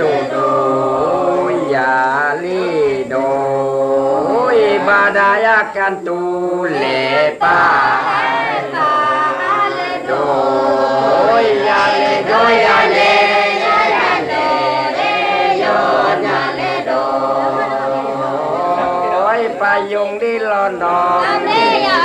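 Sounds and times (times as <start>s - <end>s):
choir singing unaccompanied: 0.0s - 22.0s.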